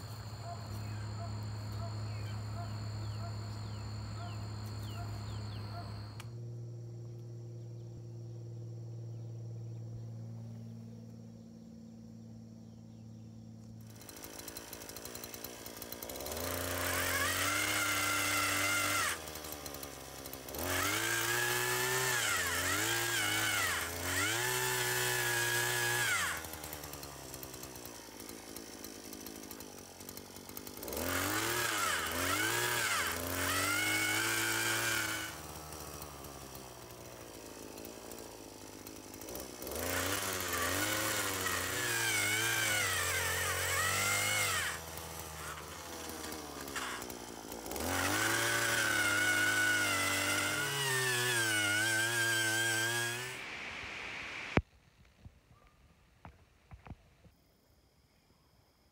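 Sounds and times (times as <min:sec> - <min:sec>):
earth auger engine revving: 0:00.0 - 0:11.6, 0:12.2 - 0:54.6.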